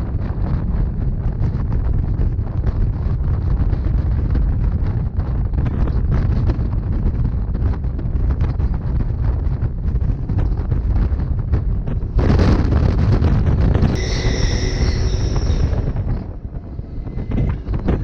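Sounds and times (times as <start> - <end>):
train rumbling on rails: 0.0 - 18.0
wind buffeting microphone: 0.0 - 18.0.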